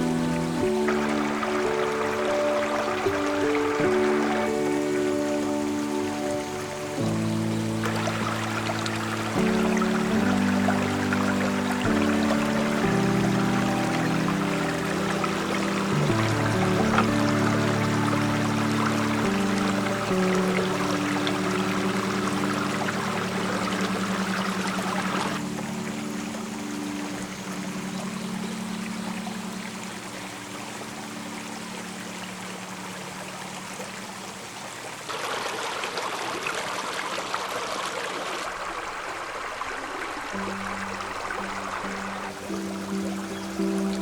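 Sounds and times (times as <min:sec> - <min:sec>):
soft background music: 0:00.0 - 0:35.1, 0:38.6 - 0:44.0
stream babbling: 0:00.0 - 0:44.0.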